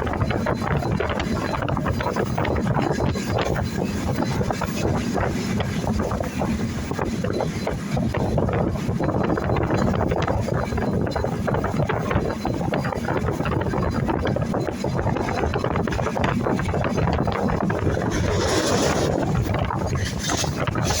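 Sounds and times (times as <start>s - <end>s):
train carriage rumble and rattle: 0.0s - 21.0s
wind rushing over microphone: 0.0s - 21.0s.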